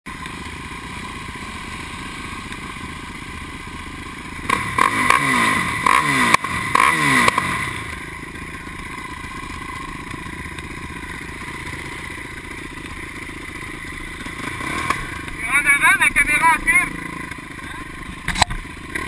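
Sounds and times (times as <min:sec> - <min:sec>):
engine throttle blips: 0:00.1 - 0:19.0
quad engines idling: 0:00.1 - 0:19.0.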